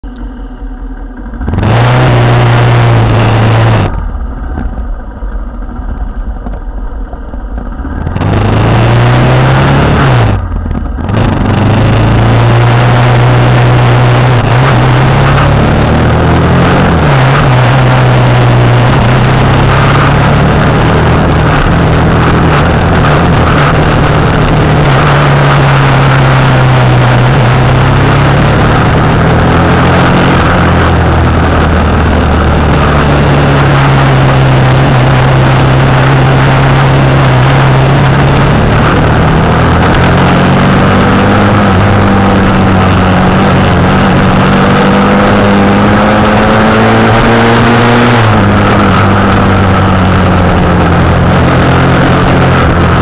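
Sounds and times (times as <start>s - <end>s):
motorcycle engine riding: 0.0s - 53.0s
steady rushing noise: 0.0s - 53.0s.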